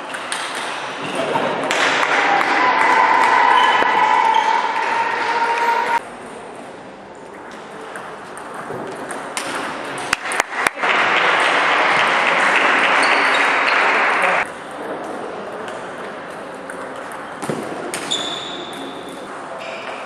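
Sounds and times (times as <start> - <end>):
loud even din from hall: 0.0 - 20.0.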